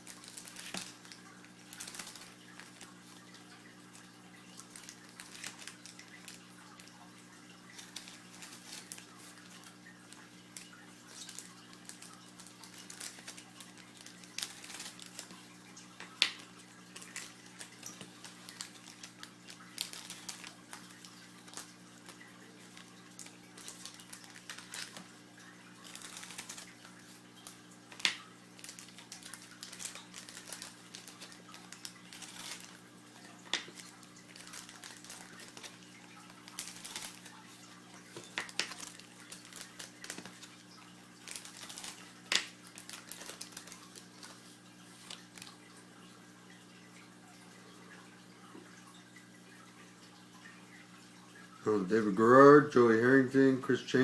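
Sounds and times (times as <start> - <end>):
card packs crinkling: 0.0 - 45.9.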